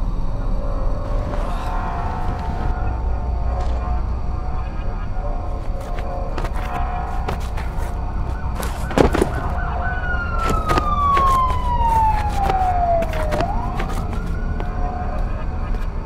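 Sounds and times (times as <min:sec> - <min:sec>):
siren wailing: 0:00.4 - 0:16.0.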